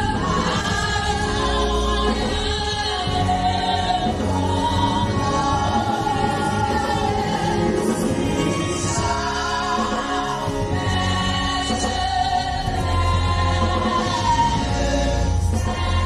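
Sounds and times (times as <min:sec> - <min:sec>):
musical accompaniment: 0:00.0 - 0:16.0
woman singing a hymn: 0:00.0 - 0:16.0.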